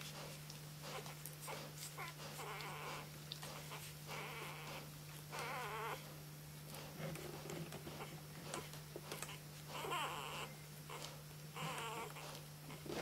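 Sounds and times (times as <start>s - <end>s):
puppies whining: 0.0s - 6.2s, 7.8s - 13.0s.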